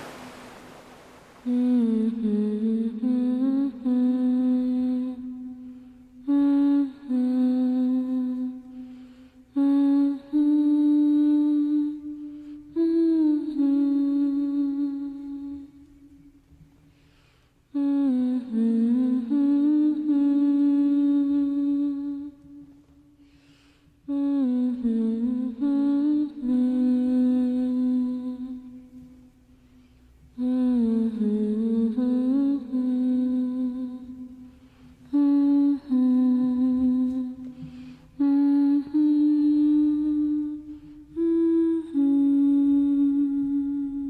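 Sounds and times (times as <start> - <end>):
person humming a slow melody: 1.4 - 16.4, 17.7 - 23.3, 24.0 - 29.4, 30.3 - 44.0.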